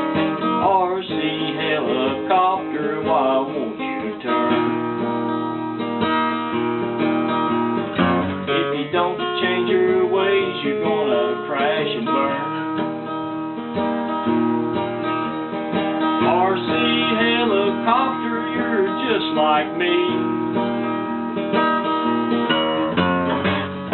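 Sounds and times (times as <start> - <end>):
acoustic guitar strumming blues: 0.0 - 23.9.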